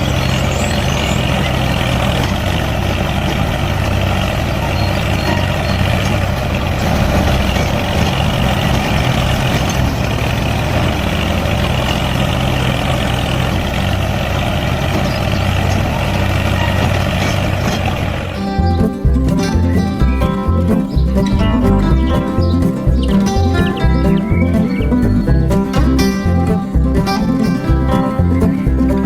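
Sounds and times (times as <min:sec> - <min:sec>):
heavy engine idling: 0:00.0 - 0:29.0.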